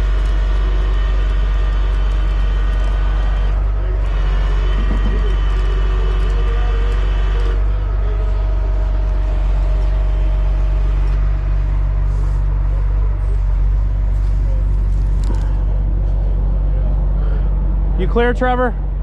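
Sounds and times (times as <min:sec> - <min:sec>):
diesel engine running: 0:00.0 - 0:19.0
high steady whine: 0:00.0 - 0:19.0.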